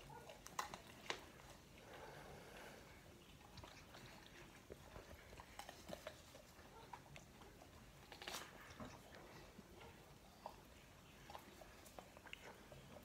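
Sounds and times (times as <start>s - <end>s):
dogs crunching on fish: 0.0s - 13.0s.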